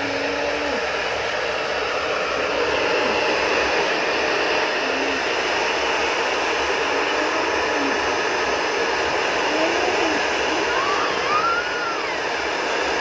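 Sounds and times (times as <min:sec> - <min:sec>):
cooling fan whirring: 0:00.0 - 0:13.0.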